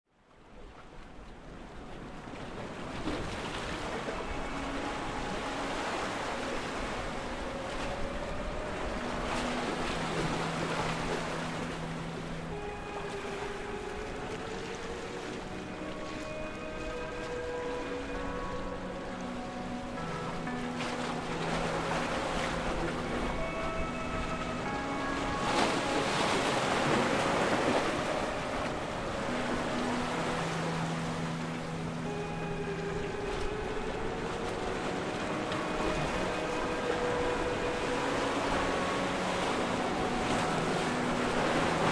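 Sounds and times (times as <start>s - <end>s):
wind: 0.0s - 41.9s
surf: 0.3s - 41.9s
boat diesel engines droning: 2.6s - 41.9s.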